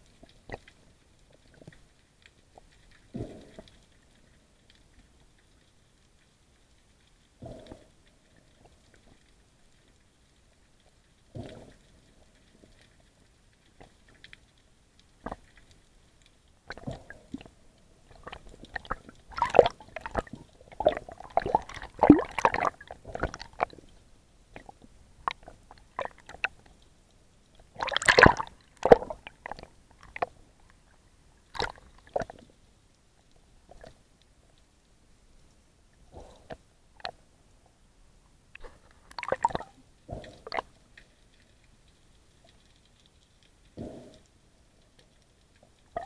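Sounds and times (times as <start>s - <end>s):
underwater scrapes and rustles: 0.0s - 34.7s, 35.3s - 37.8s, 38.5s - 46.0s.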